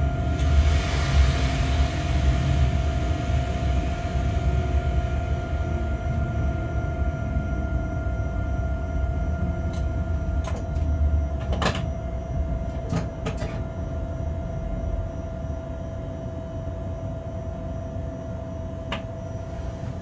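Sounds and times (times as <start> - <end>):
locomotive rumble with whine: 0.0 - 20.0.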